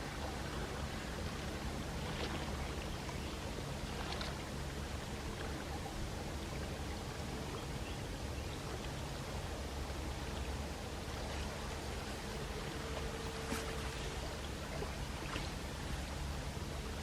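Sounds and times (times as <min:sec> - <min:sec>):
faint water splashes: 0:00.0 - 0:17.0
waves lapping at shore: 0:00.0 - 0:17.0.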